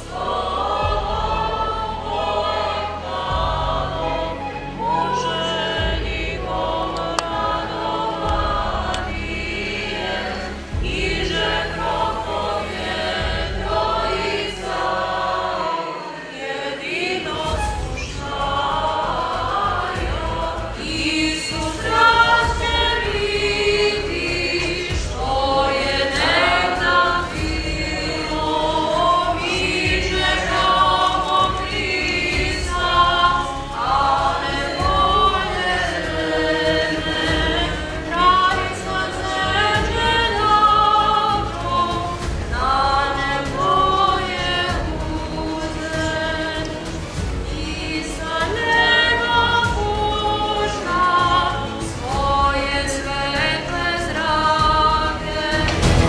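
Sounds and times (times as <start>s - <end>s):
choir chanting: 0.0s - 56.0s.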